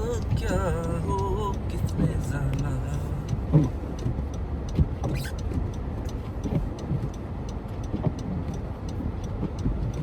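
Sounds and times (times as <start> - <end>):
car road and engine rumble: 0.0 - 10.0
light ticks: 0.0 - 10.0.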